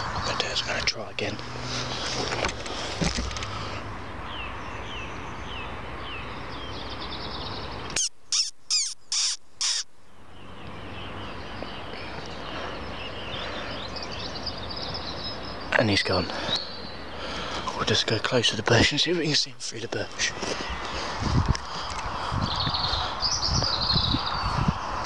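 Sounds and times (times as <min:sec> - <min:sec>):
bird harsh calls: 0:00.0 - 0:25.0
small birds chirping: 0:00.0 - 0:25.0.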